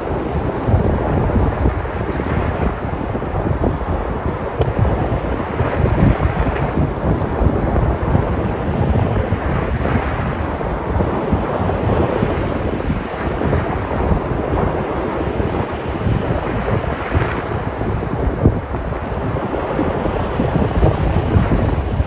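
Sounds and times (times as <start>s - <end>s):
sea surf breaking on shore: 0.0s - 22.0s
wind buffeting microphone: 0.0s - 22.0s.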